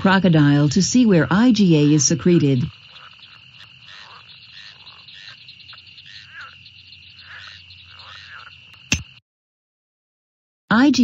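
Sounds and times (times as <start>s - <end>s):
frogs croaking: 0.0s - 9.2s.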